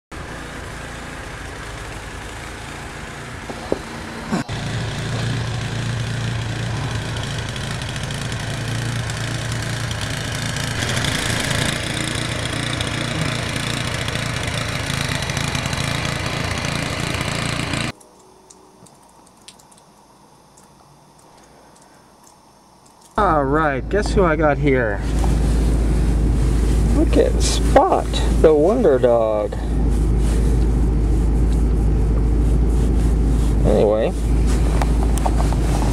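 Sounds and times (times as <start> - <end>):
engine running: 0.1 - 18.0, 23.2 - 35.9.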